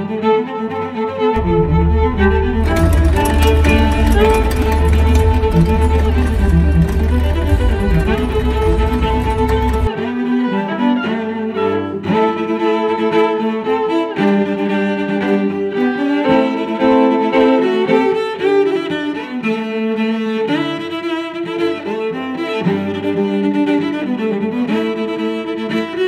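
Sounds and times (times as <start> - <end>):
bowed strings music: 0.0 - 26.0.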